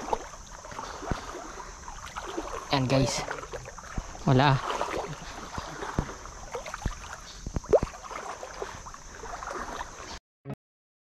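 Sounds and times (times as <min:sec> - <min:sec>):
small waves lapping: 0:00.0 - 0:10.2.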